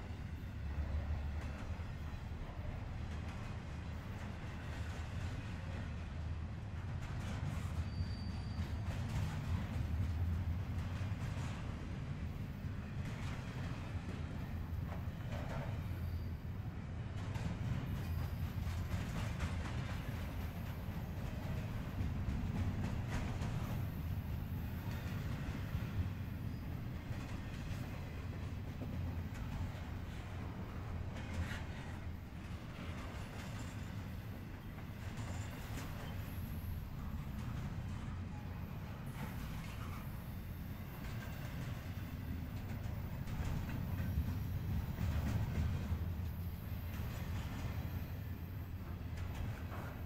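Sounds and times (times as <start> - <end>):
freight train wheels rumbling: 0.0 - 50.0.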